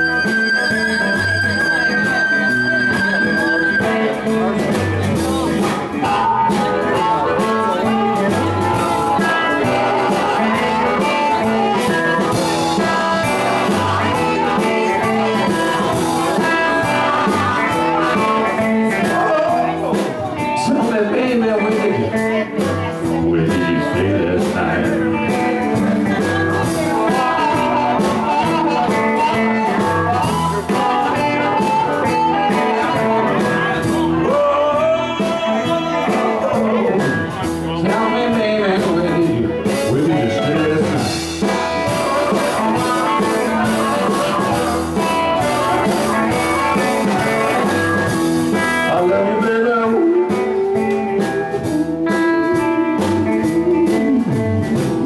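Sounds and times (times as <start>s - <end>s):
electric guitar lead lines: 0.0s - 55.0s
live electric blues band: 0.0s - 55.0s.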